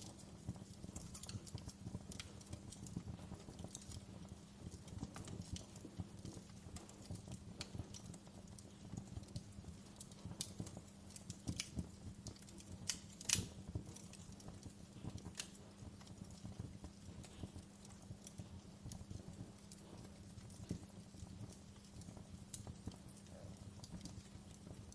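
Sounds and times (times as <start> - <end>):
steady low hum: 0.0 - 24.9
wood fire crackling: 0.0 - 24.9.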